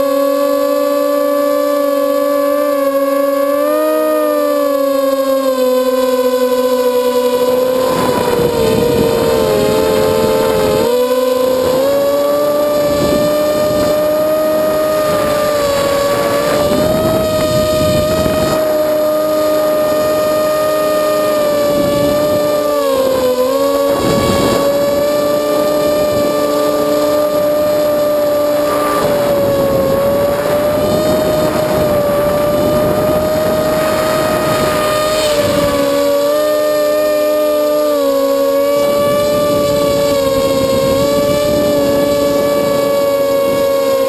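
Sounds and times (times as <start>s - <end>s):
quadcopter motors whining: 0.0s - 44.0s.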